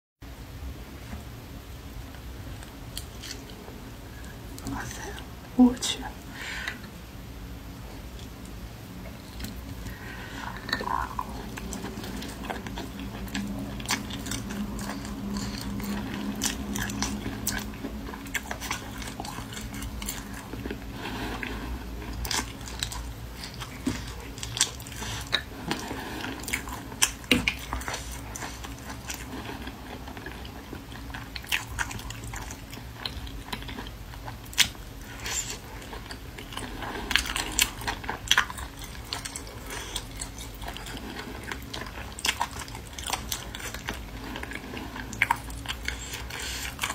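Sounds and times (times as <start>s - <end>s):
chewing and biting: 9.1s - 46.9s.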